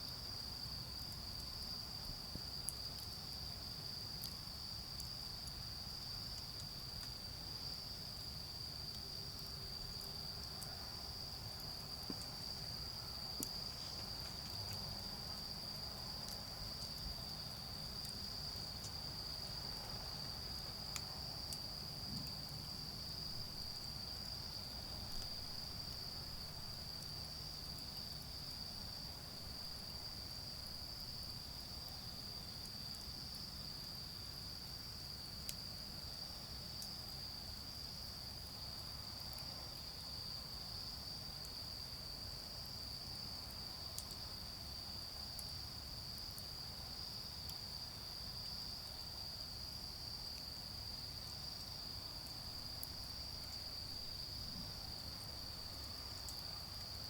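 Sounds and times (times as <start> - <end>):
crickets chirring: 0.0 - 57.0
faint crackles of charcoal fire: 0.0 - 57.0.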